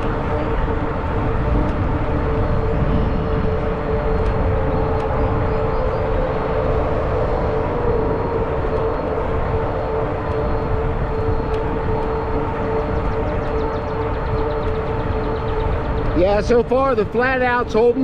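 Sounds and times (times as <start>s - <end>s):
electric bike tyre hum: 0.0s - 18.0s
wind rumble on microphone: 0.0s - 18.0s.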